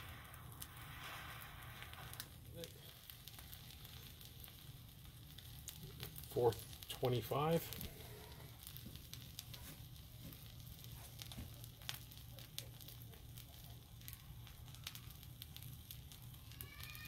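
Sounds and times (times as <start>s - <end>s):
charcoal crackling: 0.0s - 17.0s.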